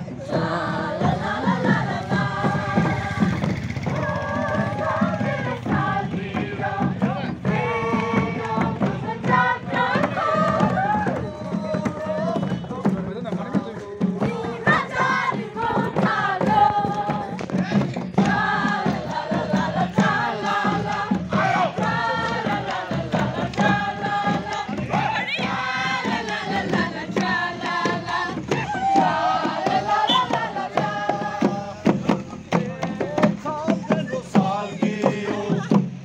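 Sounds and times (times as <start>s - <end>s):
group singing and chanting: 0.0s - 36.0s
hand-beaten wooden drums: 0.0s - 36.0s.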